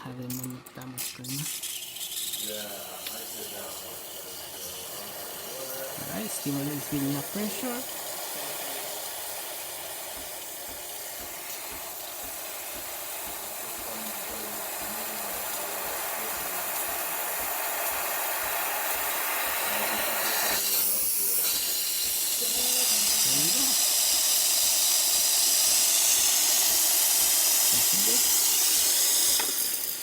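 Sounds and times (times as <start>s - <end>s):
steam wand hissing: 1.1s - 30.0s.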